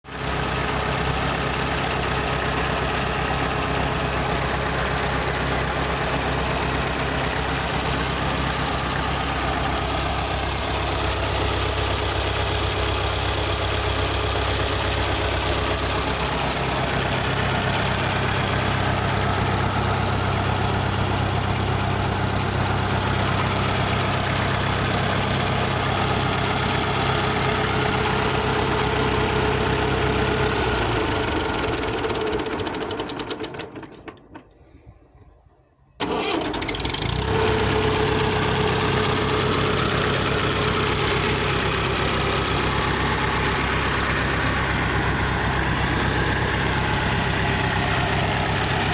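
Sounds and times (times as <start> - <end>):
tractor diesel engine running: 0.1 - 34.6, 36.0 - 48.9.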